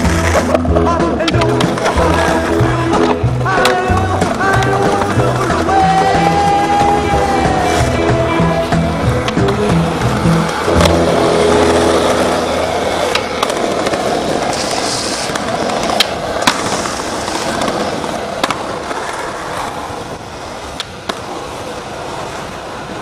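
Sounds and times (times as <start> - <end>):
skateboard wooden clacks: 0.0 - 11.9, 12.9 - 19.9
skateboard wheels rolling on pavement: 0.0 - 23.0.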